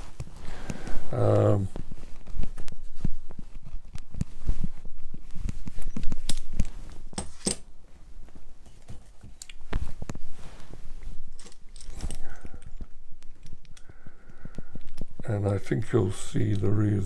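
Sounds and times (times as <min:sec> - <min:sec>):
handling rustle: 0:00.0 - 0:17.0.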